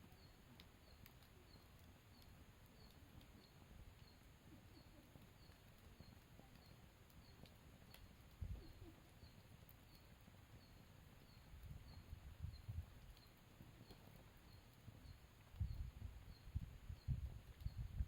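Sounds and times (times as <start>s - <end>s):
campfire crackles: 0.0s - 18.0s.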